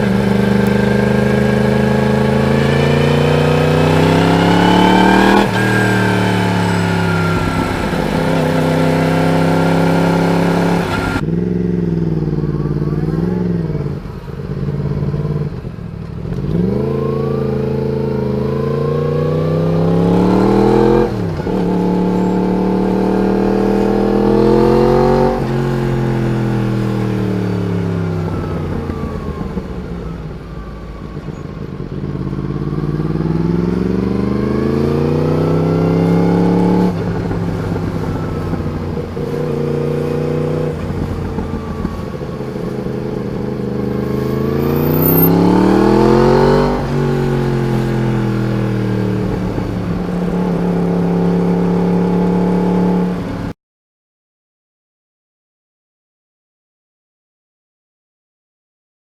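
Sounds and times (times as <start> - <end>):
motorcycle engine revving: 0.0 - 53.6.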